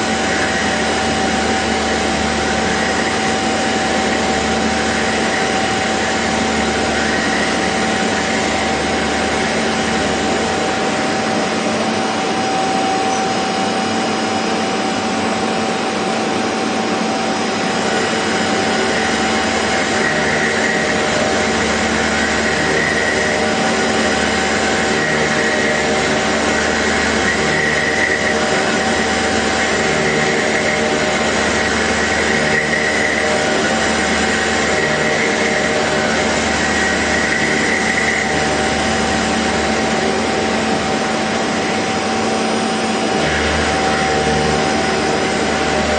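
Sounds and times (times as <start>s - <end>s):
machine whine over low hum: 0.0s - 45.9s
machine whirring: 0.0s - 45.9s.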